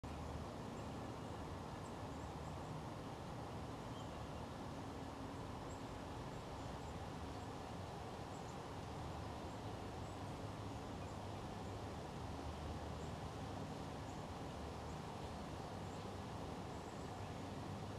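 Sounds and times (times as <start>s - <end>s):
low rumble and hiss: 0.0s - 17.9s.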